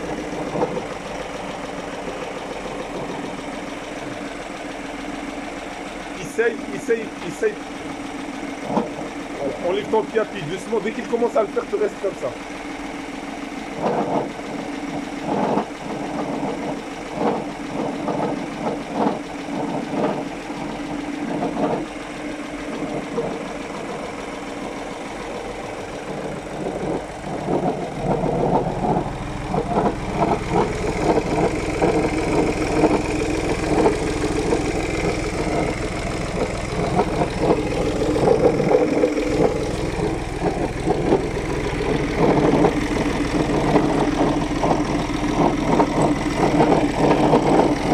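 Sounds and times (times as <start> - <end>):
deep drone: 0.0 - 47.9
diesel engine clattering: 0.0 - 47.9.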